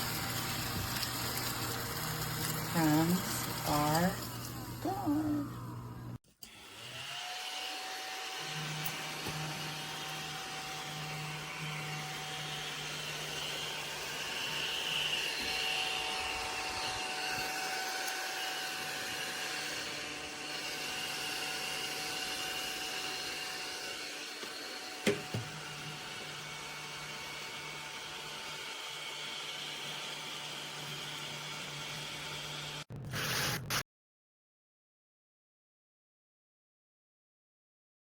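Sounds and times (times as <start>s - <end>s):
handheld vacuum cleaner running: 0.0s - 32.9s.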